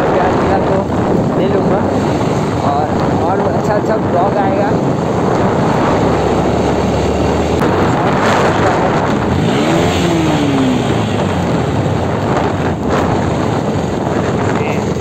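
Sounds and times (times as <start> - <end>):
wind and road noise: 0.0 - 15.0
motorcycle engine running: 0.1 - 15.0.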